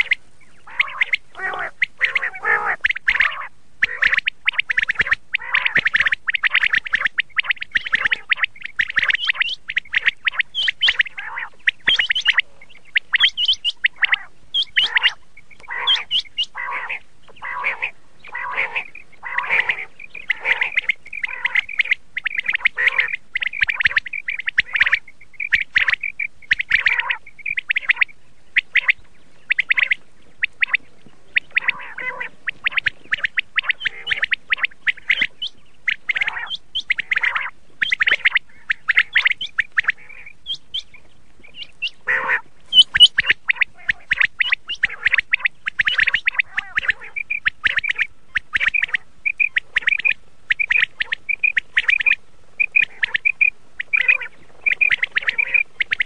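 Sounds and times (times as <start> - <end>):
quail calling: 0.0 - 56.0.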